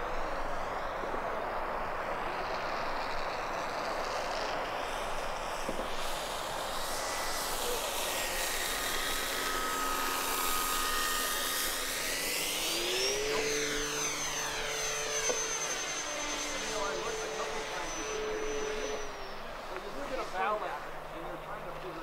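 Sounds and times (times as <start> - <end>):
model plane motor whining: 0.0 - 22.0.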